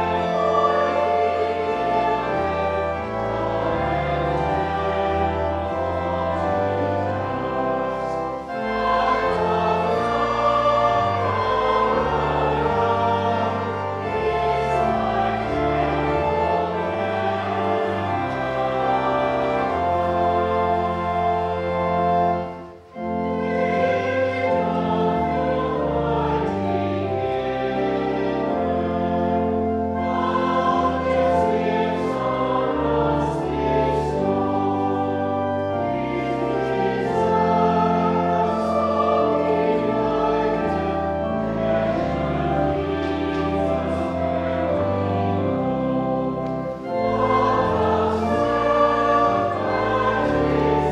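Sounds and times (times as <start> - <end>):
choir singing sustained chords: 0.0 - 50.9
instrumental accompaniment: 0.0 - 50.9.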